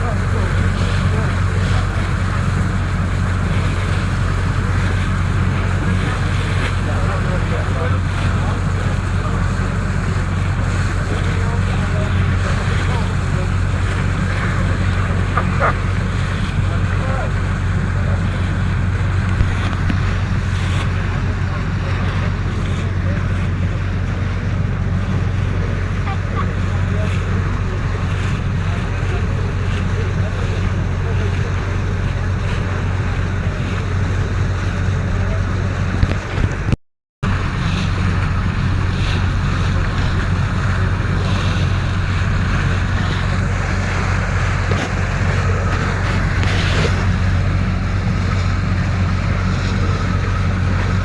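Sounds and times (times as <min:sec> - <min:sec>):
rush of wind and water: 0:00.0 - 0:51.0
ship engine humming: 0:00.0 - 0:51.0.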